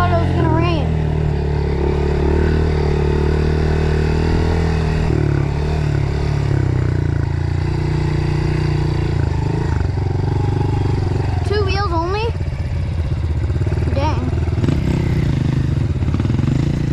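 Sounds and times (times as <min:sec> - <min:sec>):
dirt bike engine running: 0:00.0 - 0:16.9.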